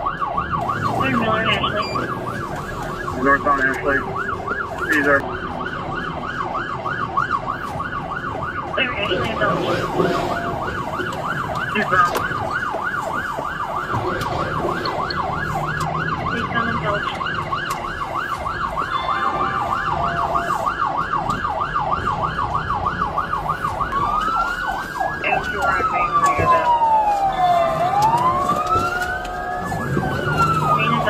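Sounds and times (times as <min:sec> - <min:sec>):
engine and road noise: 0:00.0 - 0:31.0
police siren yelping: 0:00.0 - 0:31.0.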